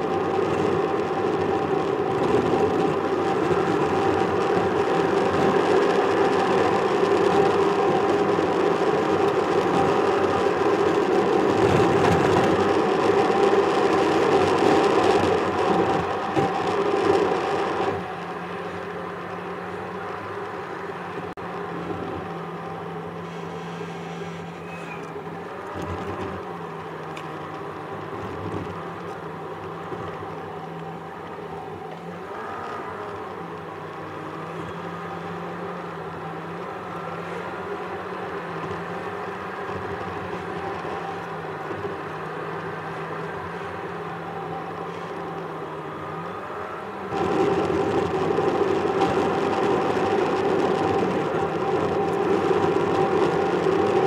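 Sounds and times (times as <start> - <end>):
car engine drone: 0.0 - 54.0
road noise: 0.0 - 54.0.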